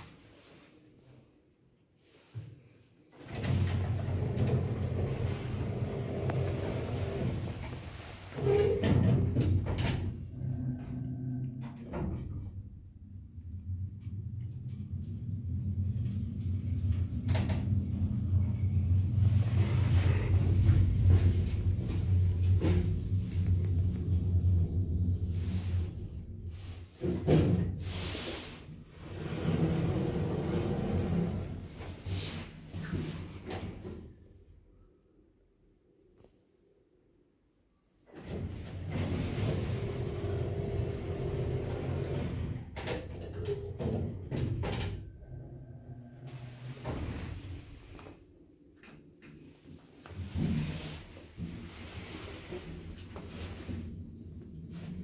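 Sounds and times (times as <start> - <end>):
lift hum: 3.3 - 35.0, 36.7 - 55.0.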